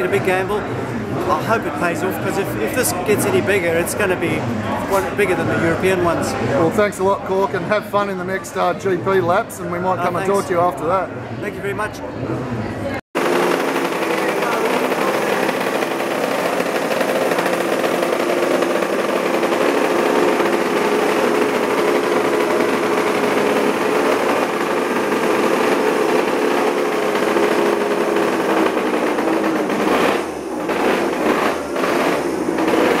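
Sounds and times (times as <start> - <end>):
racing motorcycle engine: 0.0 - 6.9, 13.2 - 33.0.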